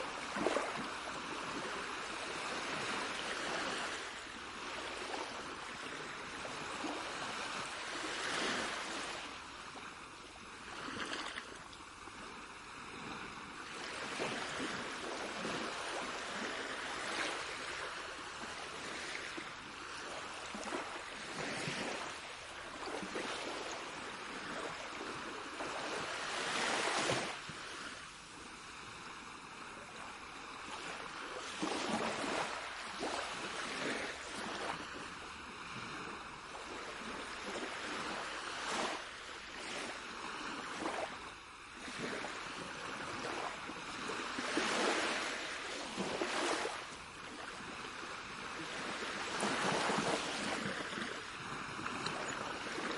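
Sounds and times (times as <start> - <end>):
sea waves washing ashore: 0.0 - 52.9.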